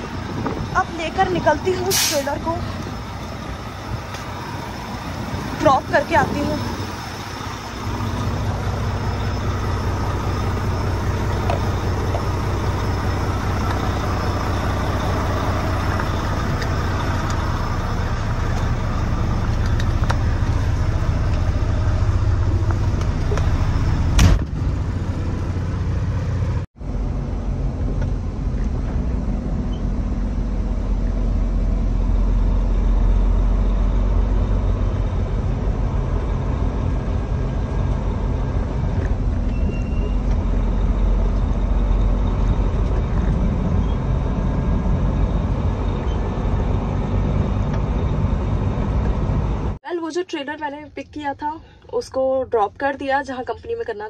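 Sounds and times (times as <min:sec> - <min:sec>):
diesel truck engine rumbling: 0:00.0 - 0:54.0
road and cab noise: 0:00.0 - 0:54.0.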